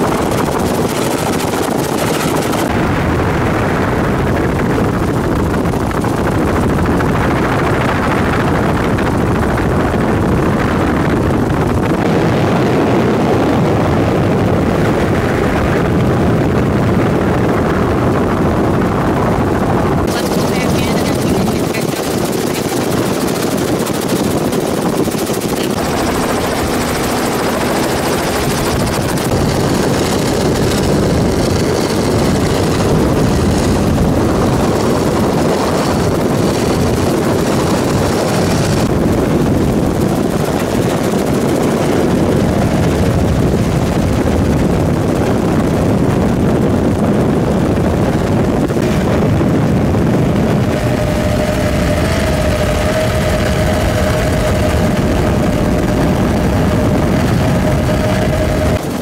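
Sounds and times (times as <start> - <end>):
helicopter rotor and engine: 0.0 - 59.0
steady whine: 0.0 - 59.0.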